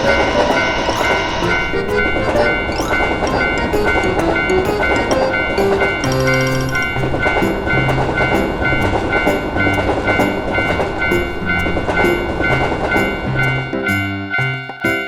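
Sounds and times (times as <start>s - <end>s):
background music: 0.0s - 15.0s
railroad crossing bell ringing: 0.0s - 15.0s
train wheels clattering on rails: 0.0s - 15.0s.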